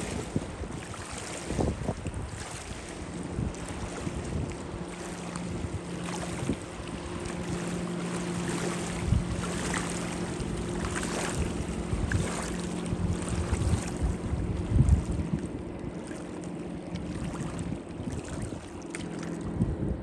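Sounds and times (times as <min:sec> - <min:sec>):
water splashing: 0:00.0 - 0:19.6
motorboat engine droning: 0:00.0 - 0:20.0
wind on microphone: 0:00.0 - 0:20.0.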